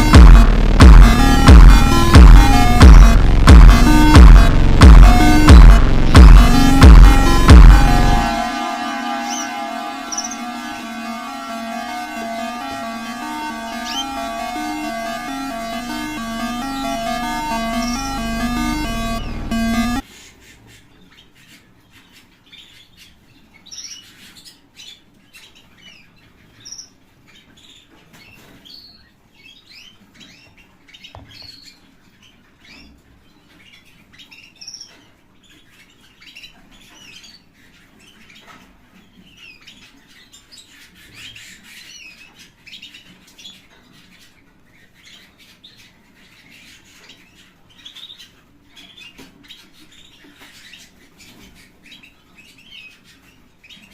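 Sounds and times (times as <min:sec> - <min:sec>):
canaries chirping: 0:00.0 - 0:53.9.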